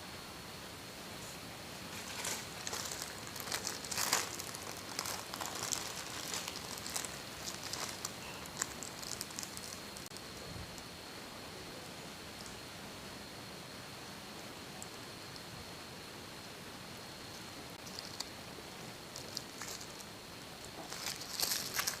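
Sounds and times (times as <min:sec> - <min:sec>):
faint high whine: 0:00.0 - 0:22.0.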